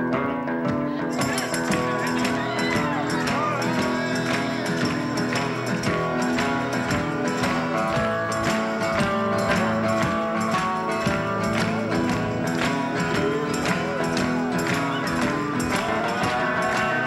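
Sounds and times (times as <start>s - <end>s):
upbeat song with guitar and drums: 0.0s - 17.0s.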